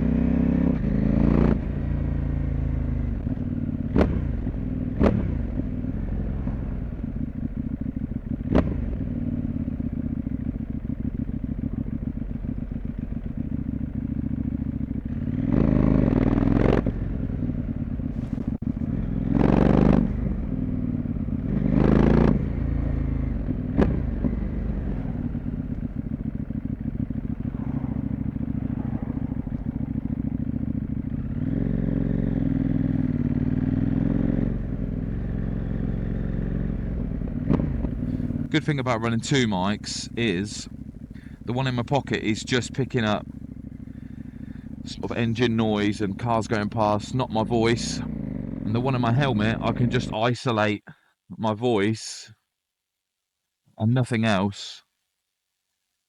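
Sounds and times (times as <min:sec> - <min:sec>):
motorcycle engine running: 0:00.0 - 0:50.2.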